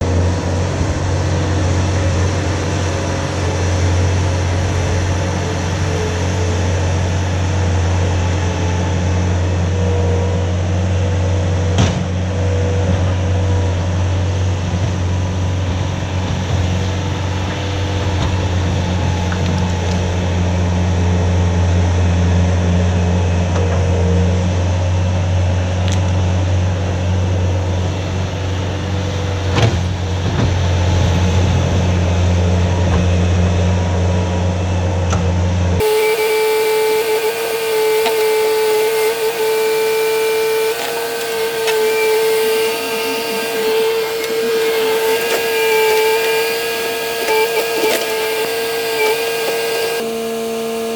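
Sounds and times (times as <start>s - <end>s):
skid steer engine running: 0.0s - 50.9s.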